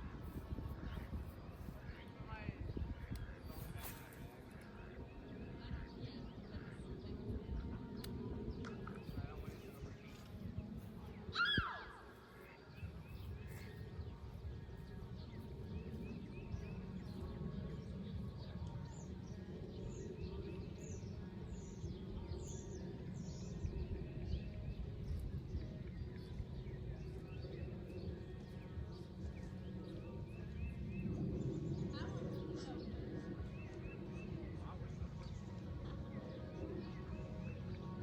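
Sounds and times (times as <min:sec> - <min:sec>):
steady low rumble: 0:00.0 - 0:38.0
small birds chirping: 0:00.3 - 0:38.0.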